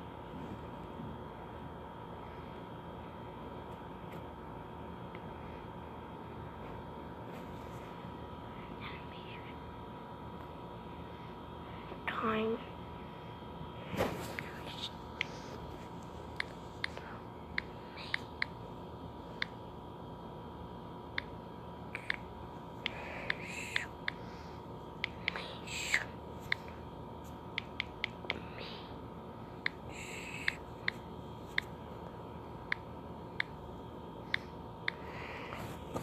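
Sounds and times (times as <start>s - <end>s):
faint steady whine: 0.0s - 36.0s.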